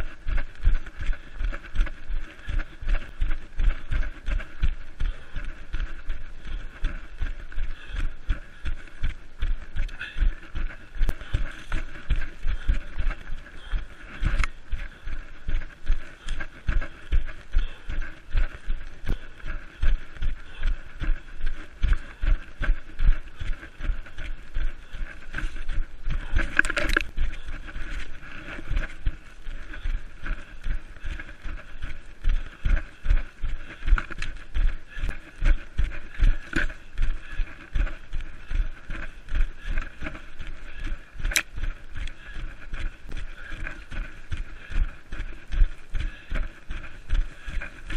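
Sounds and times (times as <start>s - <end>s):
running footfalls on undergrowth: 0.0s - 47.9s
rustling vegetation and clothing: 0.0s - 47.9s.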